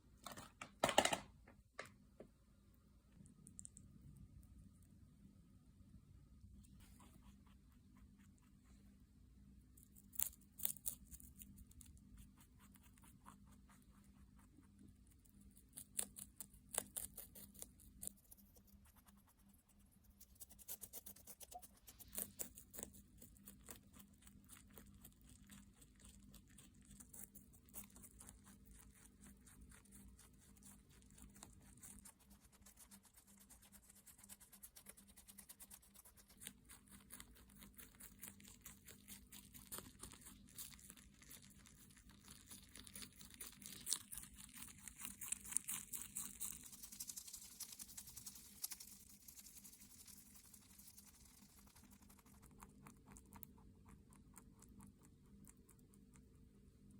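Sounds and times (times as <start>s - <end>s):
rabbit chewing vegetables: 1.9s - 56.9s.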